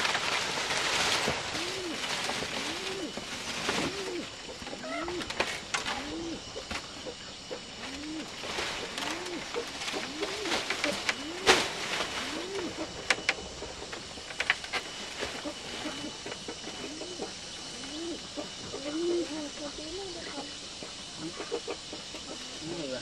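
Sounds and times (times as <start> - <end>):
dry palm leaves rustling: 0.0 - 20.4
pigeon cooing: 0.7 - 23.0.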